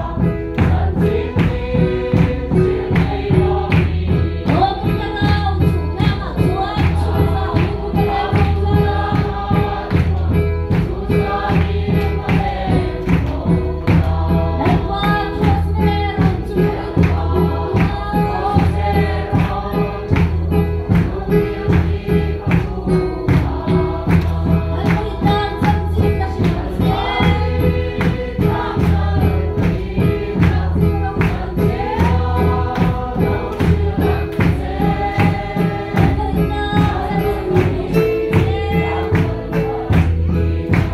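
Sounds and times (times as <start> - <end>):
congregation singing gospel song: 0.0 - 40.9
low bass accompaniment: 0.0 - 40.9
people clapping along: 0.0 - 40.9.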